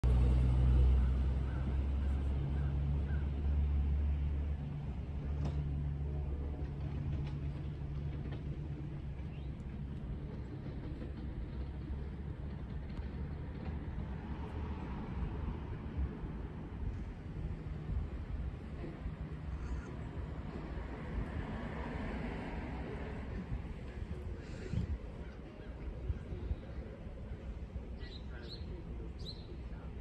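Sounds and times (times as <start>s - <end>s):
engine rumble: 0.0s - 30.0s.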